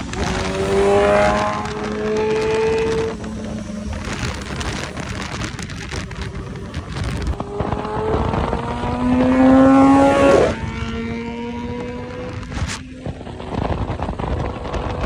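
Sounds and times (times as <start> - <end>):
motorcycle engines running: 0.0 - 15.0
wind rush: 0.0 - 15.0.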